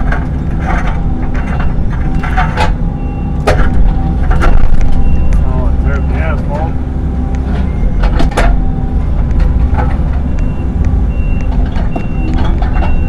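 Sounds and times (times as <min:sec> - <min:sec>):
heavy machine engine running: 0:00.0 - 0:13.0
reversing alarm beeping: 0:00.0 - 0:13.0.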